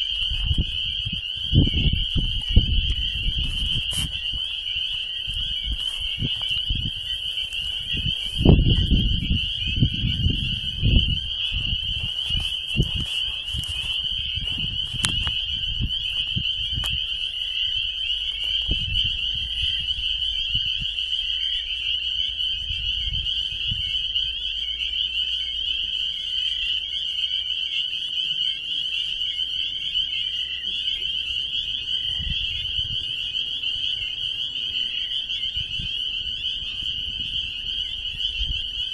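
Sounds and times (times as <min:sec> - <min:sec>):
chorus of pulsing creature calls: 0:00.0 - 0:38.9.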